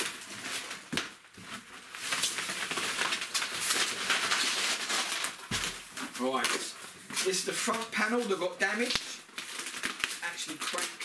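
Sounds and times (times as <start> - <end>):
foam and plastic wrapping rustling: 0.0 - 11.0.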